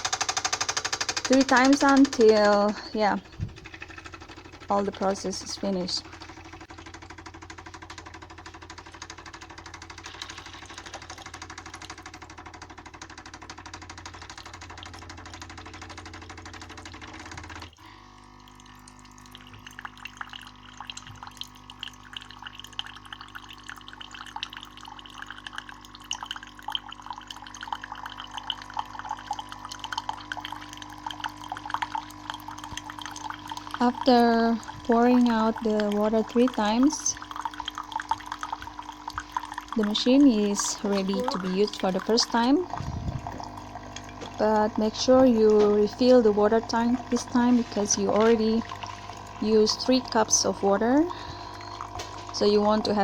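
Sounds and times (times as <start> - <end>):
coffee maker pump humming: 0.0 - 53.0
water dripping and trickling: 1.3 - 53.0.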